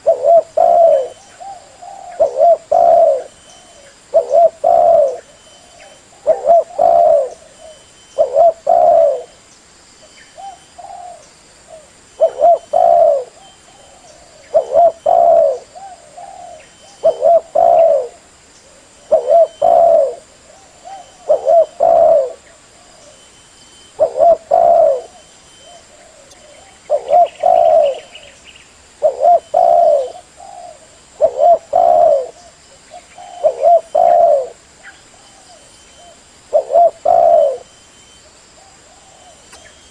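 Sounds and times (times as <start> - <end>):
dove cooing: 0.0 - 9.4, 10.4 - 23.3, 23.9 - 28.4, 29.0 - 39.9.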